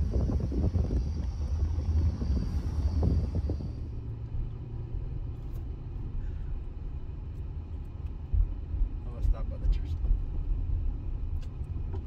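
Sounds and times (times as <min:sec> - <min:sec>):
truck engine rumble: 0:00.0 - 0:12.0
tyres on the road: 0:00.0 - 0:12.0.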